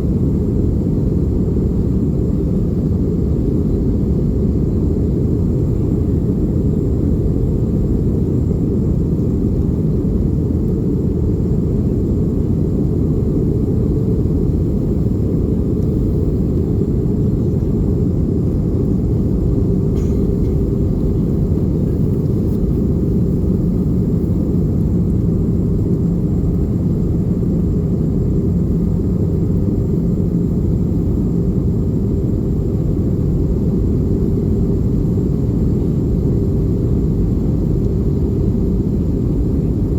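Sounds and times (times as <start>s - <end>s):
aircraft cabin engine rush: 0.0s - 39.9s.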